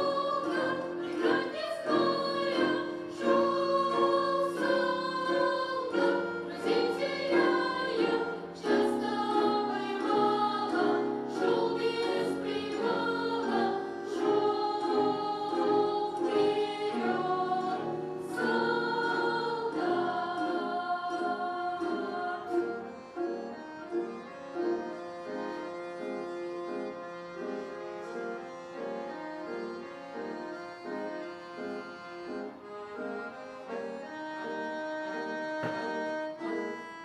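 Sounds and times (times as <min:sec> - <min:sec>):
children's choir singing: 0:00.0 - 0:28.2, 0:28.8 - 0:37.0
instrumental accompaniment: 0:00.0 - 0:37.0.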